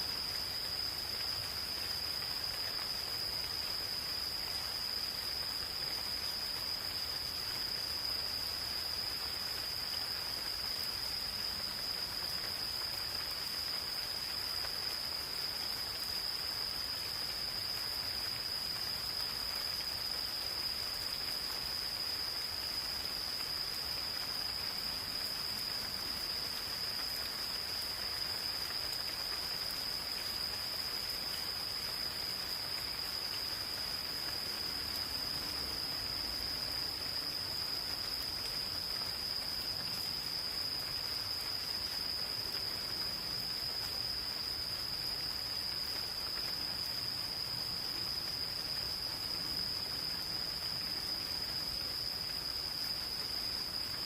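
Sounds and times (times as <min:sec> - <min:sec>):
gentle rain hiss: 0:00.0 - 0:54.0
insects trilling: 0:00.0 - 0:54.0.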